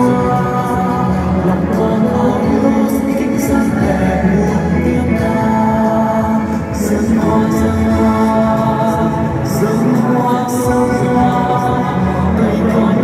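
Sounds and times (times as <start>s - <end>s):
musical accompaniment: 0.0s - 13.0s
voices singing a hymn: 0.0s - 13.0s.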